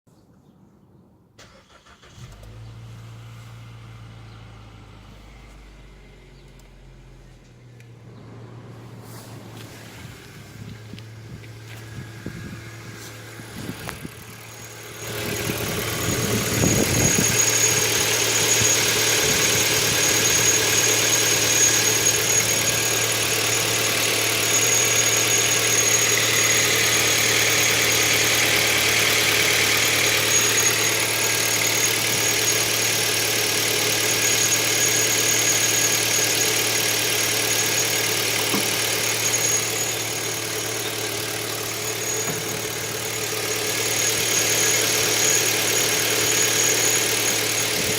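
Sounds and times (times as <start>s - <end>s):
car engine idling: 1.5s - 47.9s
high-pitched alternator whine: 4.4s - 47.9s.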